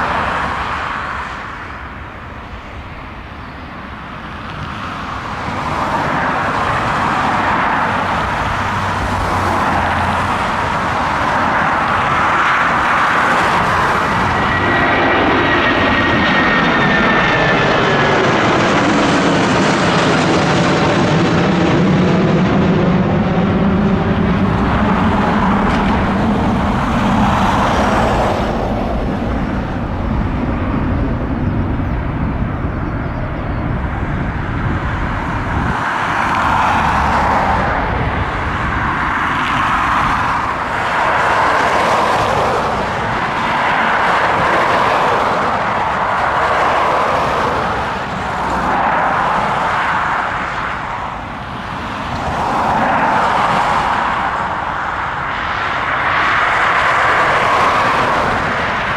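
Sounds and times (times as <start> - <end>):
jet airliner passing: 0.0 - 58.9.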